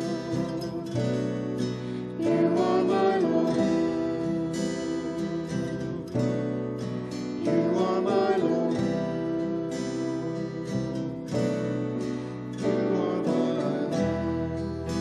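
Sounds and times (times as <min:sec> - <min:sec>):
voices singing a hymn: 0:00.0 - 0:06.4, 0:07.4 - 0:11.1, 0:12.6 - 0:15.0
acoustic guitar strumming: 0:00.0 - 0:15.0
electric bass: 0:00.0 - 0:15.0.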